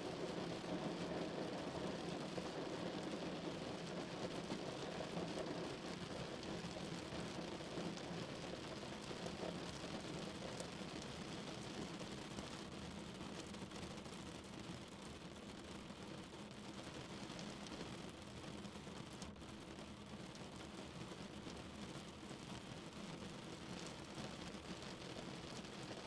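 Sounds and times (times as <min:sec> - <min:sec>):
heavy rain on a car: 0:00.0 - 0:26.0.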